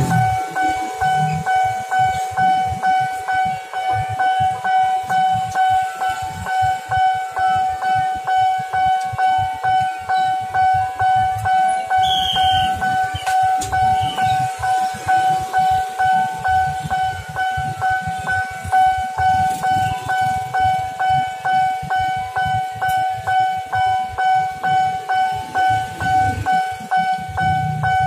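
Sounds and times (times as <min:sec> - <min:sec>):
level crossing warning bell: 0:00.0 - 0:28.0.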